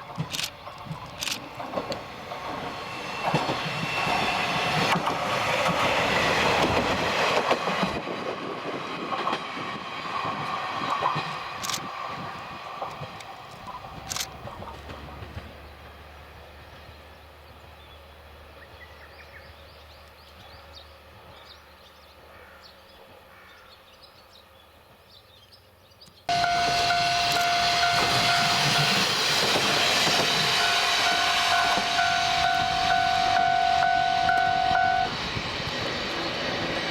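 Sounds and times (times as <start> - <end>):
loud train noise with whine: 0.0 - 25.1, 26.3 - 36.9.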